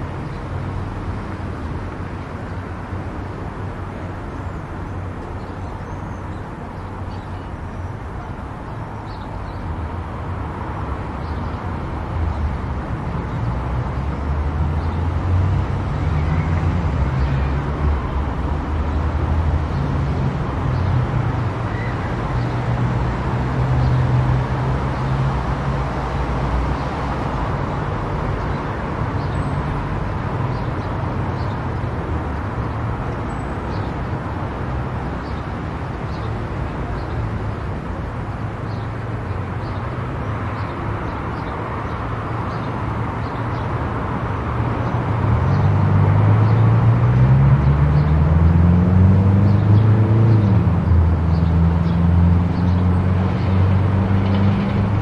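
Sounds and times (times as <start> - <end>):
car engine and tyre road noise: 0.0 - 55.0.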